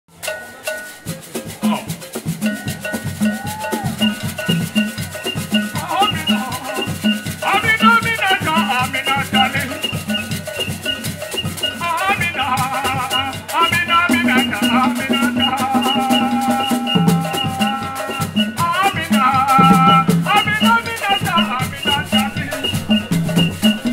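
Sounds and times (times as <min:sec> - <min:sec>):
shaker rattles: 0:00.1 - 0:23.9
wooden hand drums beating: 0:00.1 - 0:23.9
voices singing: 0:00.6 - 0:23.9.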